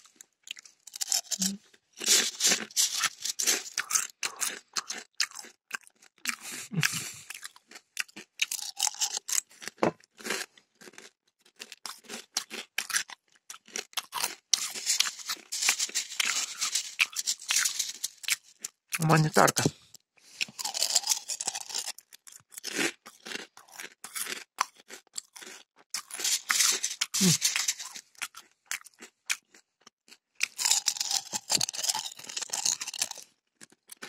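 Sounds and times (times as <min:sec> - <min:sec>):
cornflakes crunching: 0:00.1 - 0:19.2, 0:20.4 - 0:29.5, 0:30.1 - 0:34.0.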